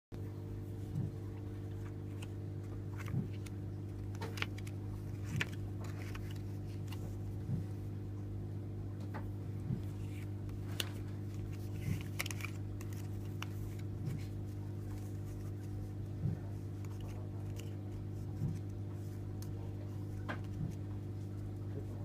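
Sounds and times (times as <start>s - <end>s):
steady low hum: 0.2s - 22.0s
cards clicking and rustling: 0.9s - 7.6s, 9.8s - 22.0s.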